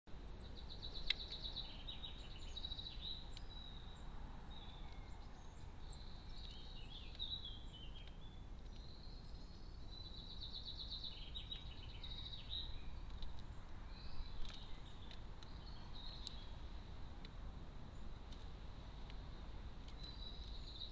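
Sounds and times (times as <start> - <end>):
songbirds singing: 0.1 - 20.9.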